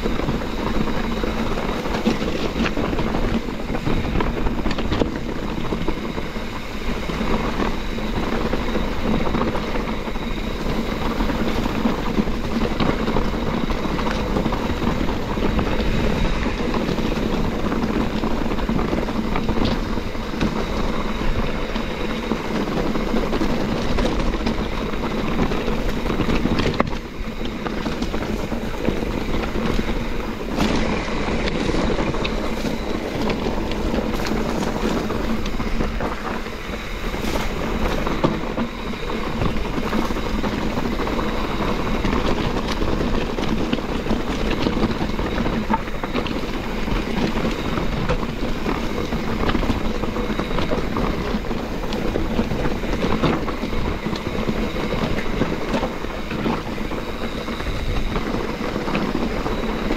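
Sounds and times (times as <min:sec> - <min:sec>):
bike knocking and rattling on rocks: 0:00.0 - 0:59.9
bike tyre and trail noise: 0:00.0 - 0:59.9.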